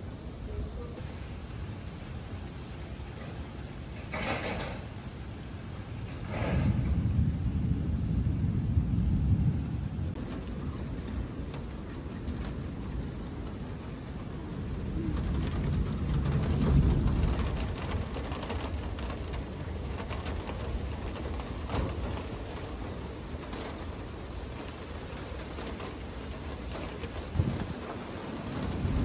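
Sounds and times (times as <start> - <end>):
rain falling: 0.0 - 29.0
thunder rumbling: 0.0 - 29.0.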